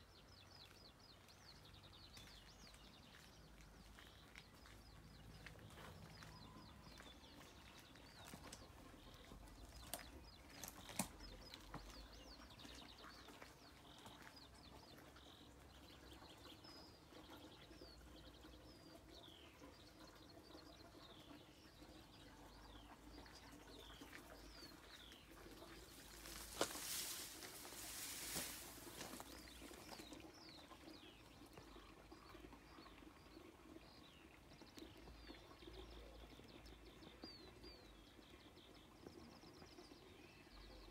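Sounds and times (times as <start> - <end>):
faint songbirds chirping: 0.0 - 40.9.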